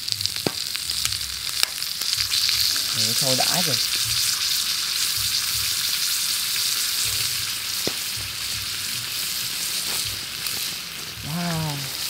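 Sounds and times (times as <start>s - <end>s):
shellfish sizzling on grill: 0.0s - 12.0s.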